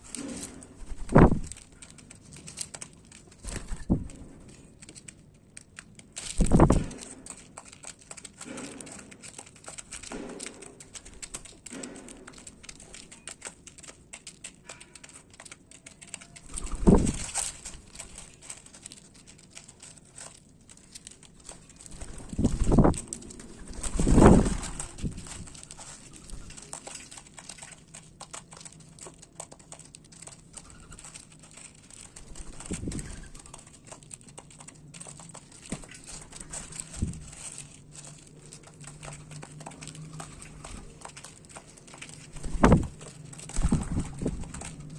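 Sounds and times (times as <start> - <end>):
birds pecking seed: 0.0 - 44.9.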